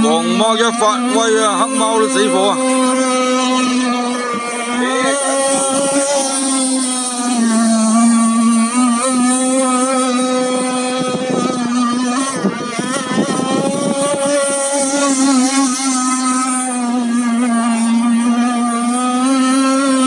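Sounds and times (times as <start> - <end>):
racing boat engine whine: 0.0 - 20.0.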